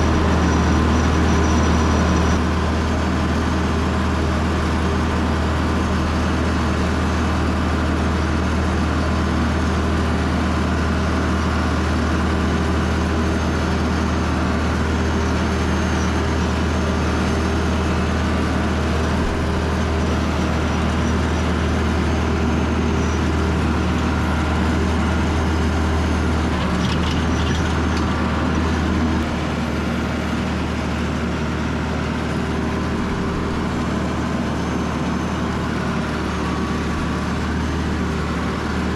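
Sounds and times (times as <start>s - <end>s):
tractor engine running under load: 0.0s - 38.9s.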